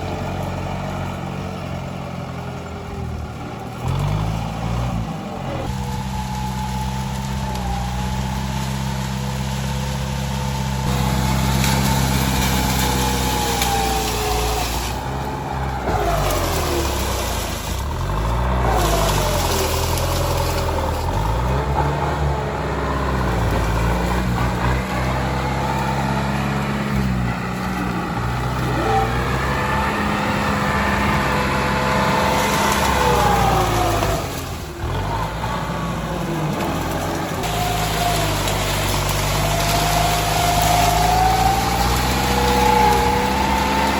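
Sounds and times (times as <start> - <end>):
tractor engine running under load: 0.0 - 43.9.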